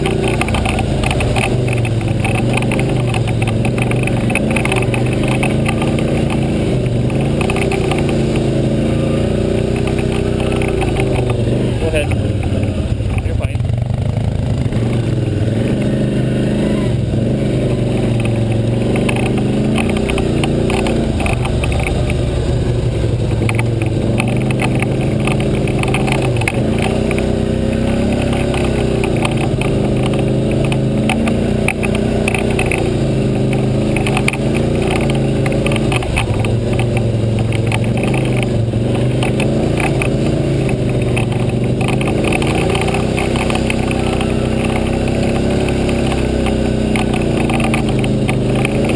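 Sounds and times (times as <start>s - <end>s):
atv engine: 0.0s - 48.9s
rapid crackling: 0.0s - 48.9s.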